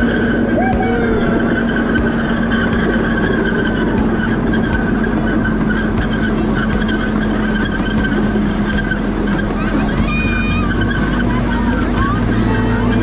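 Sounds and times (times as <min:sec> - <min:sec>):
high squeal: 0:00.0 - 0:13.0
ride train rumbling: 0:00.0 - 0:13.0.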